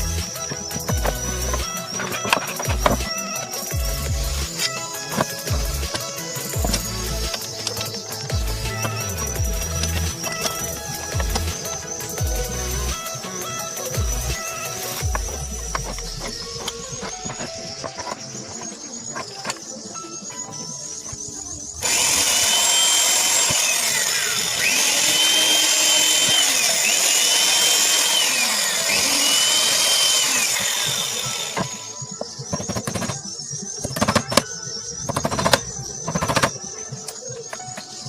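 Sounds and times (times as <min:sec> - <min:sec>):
electric drill whining: 0:00.0 - 0:38.0.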